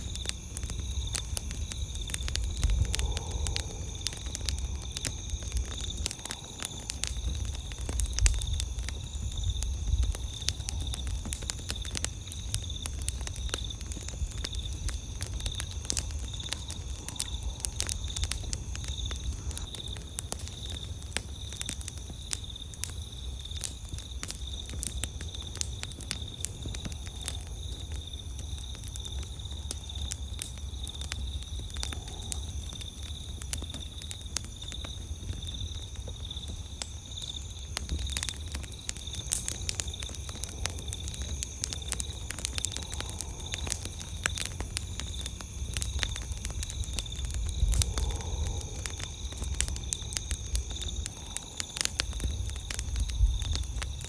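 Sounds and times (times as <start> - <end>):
campfire crackling and popping: 0.0 - 54.0
insects trilling: 0.0 - 54.0.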